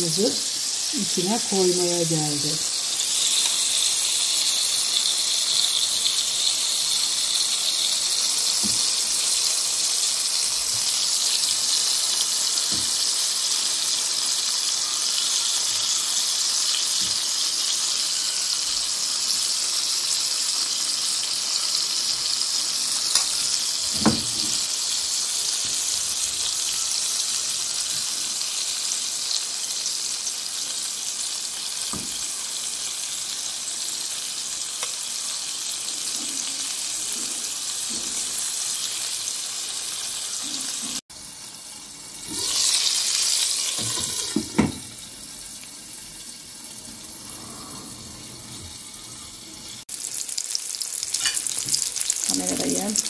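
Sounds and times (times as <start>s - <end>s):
oil sizzling in a frying pan: 0.0s - 53.0s.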